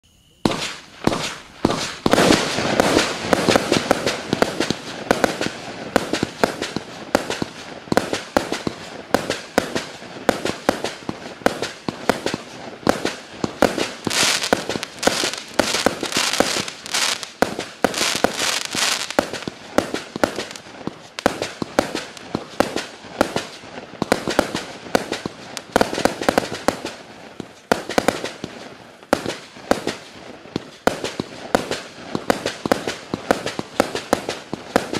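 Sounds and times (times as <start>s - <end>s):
firework cake firing: 0.1s - 34.9s.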